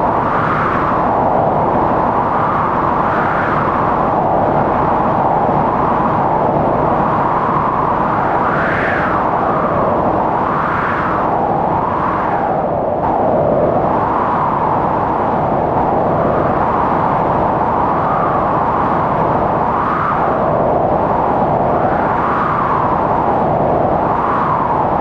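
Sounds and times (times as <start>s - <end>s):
strong wind howling: 0.0s - 25.0s.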